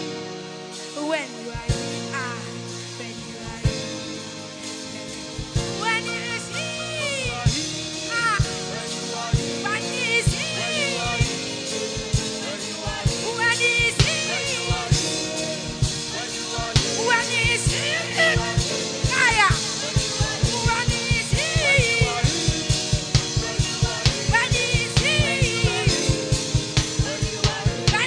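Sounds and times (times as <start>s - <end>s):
drum kit beating: 1.6s - 28.0s
sliding melody line: 4.8s - 28.0s.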